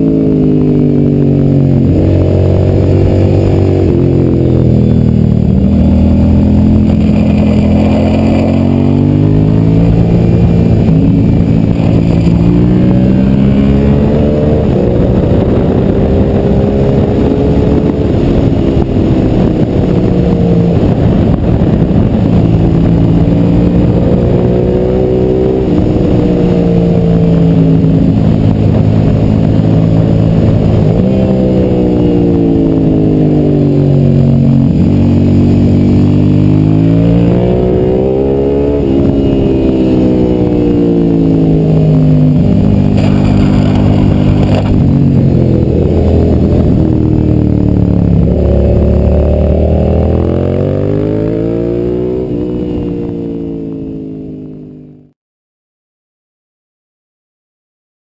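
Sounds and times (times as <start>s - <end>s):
motorcycle engine revving: 0.0s - 55.1s.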